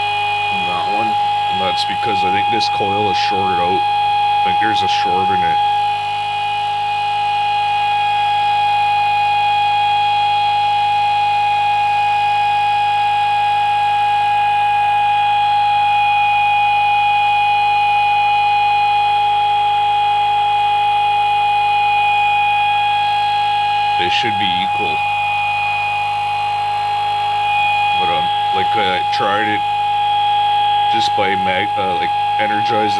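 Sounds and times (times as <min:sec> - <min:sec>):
motor high-pitched whine: 0:00.0 - 0:32.9.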